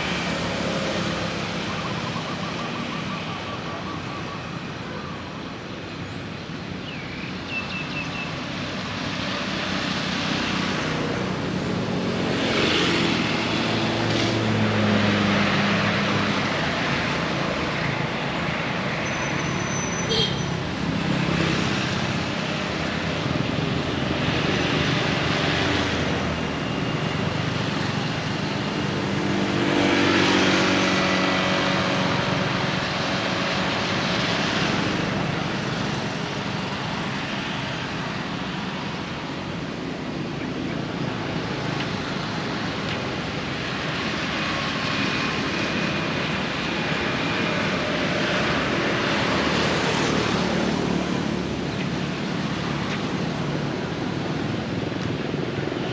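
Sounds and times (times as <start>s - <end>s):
vehicles passing on road: 0.0s - 55.9s.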